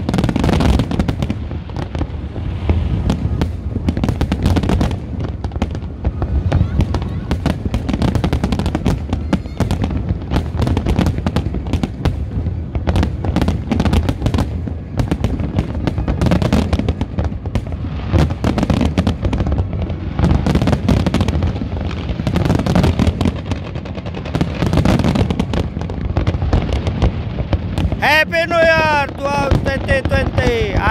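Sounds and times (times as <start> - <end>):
fireworks booming: 0.0 - 30.9.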